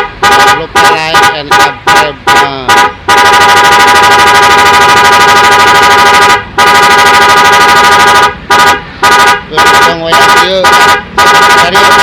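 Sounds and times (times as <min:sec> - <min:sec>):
fluttering multi-tone car horn: 0:00.0 - 0:12.0.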